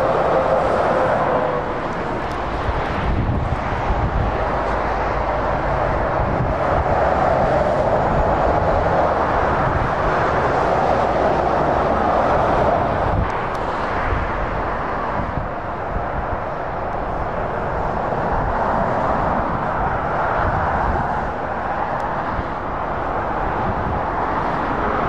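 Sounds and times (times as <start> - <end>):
lorry passing close: 0.0 - 25.0
motorway traffic roar: 0.0 - 25.0.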